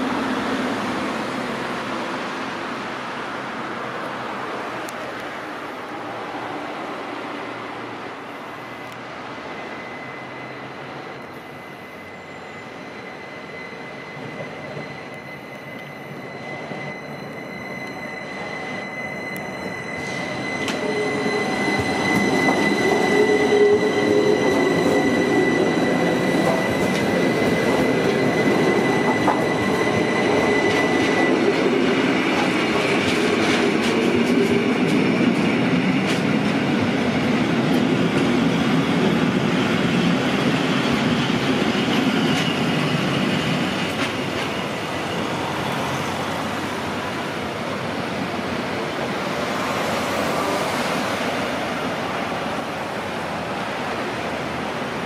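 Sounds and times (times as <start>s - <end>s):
train passing on street track: 0.0s - 55.0s
steady high squeal: 8.2s - 55.0s.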